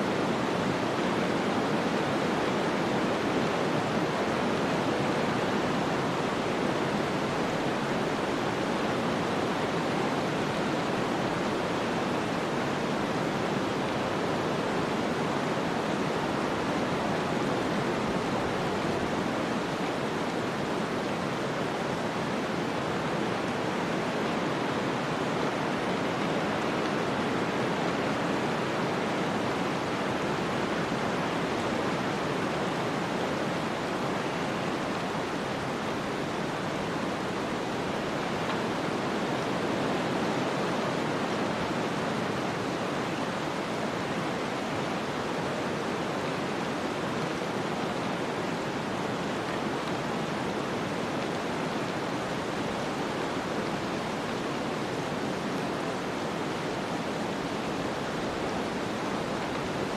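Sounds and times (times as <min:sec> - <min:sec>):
steady snowstorm rushing noise: 0:00.0 - 0:59.9.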